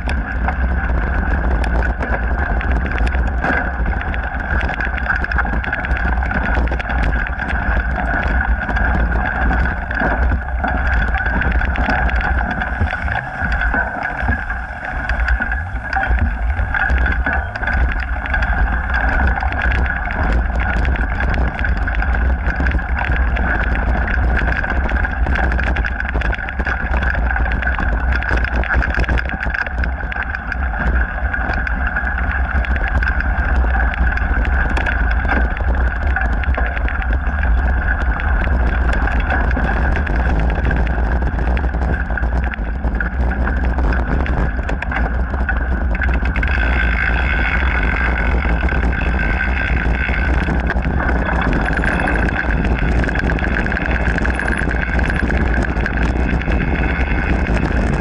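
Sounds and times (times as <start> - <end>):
bike rattling and knocking: 0.0 - 58.0
bike tyre noise: 0.0 - 58.0
wind rumble on microphone: 0.0 - 58.0.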